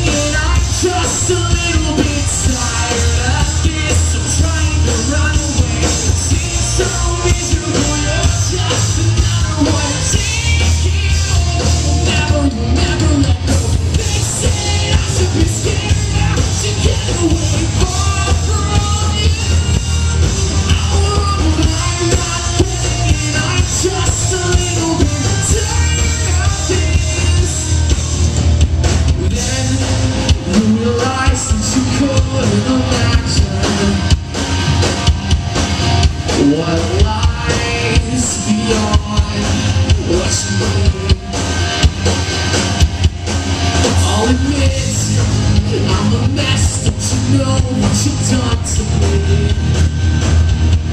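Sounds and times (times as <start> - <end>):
lead singer: 0.0 - 50.9
live rock band playing: 0.0 - 50.9.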